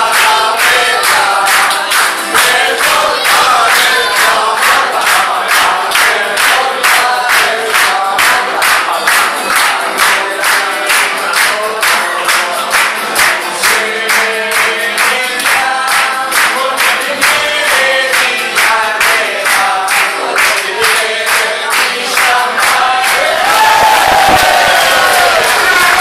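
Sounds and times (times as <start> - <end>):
acoustic guitar: 0.0 - 26.0
crowd clapping in time: 0.0 - 26.0
group singing: 0.0 - 26.0.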